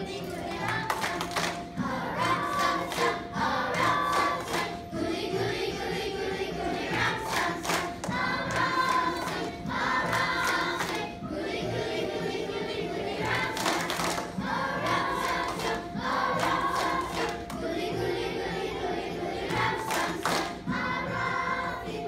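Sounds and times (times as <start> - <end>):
children's chorus singing: 0.0 - 22.0.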